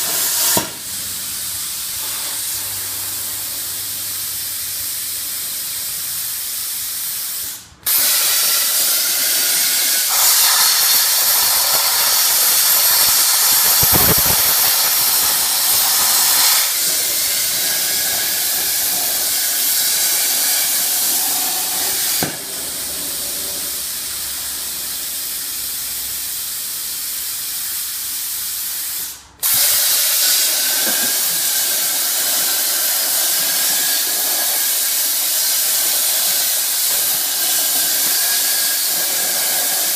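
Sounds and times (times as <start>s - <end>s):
plasma cutter torch hissing: 0.0s - 39.9s.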